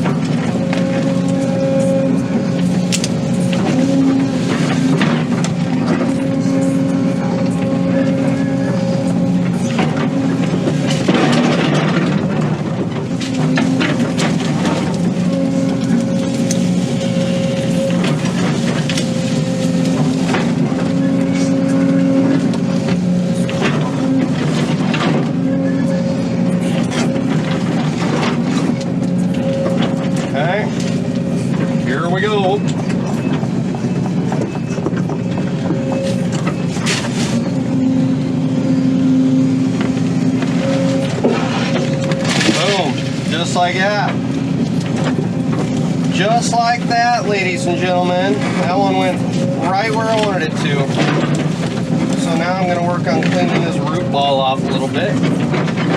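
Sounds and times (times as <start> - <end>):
excavator engine and hydraulics: 0.0 - 55.9.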